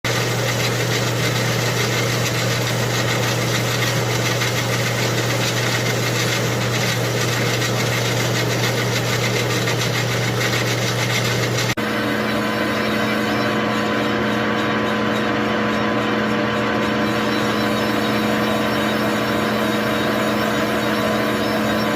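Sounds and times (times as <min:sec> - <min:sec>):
chainsaw engine running: 0:00.1 - 0:21.9
higher-pitched running sound: 0:00.1 - 0:21.9.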